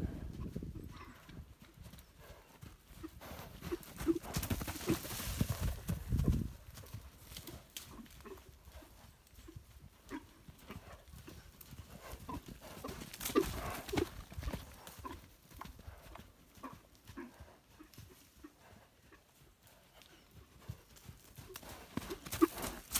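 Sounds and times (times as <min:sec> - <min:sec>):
soft hoofbeats on grass: 0:00.0 - 0:22.9.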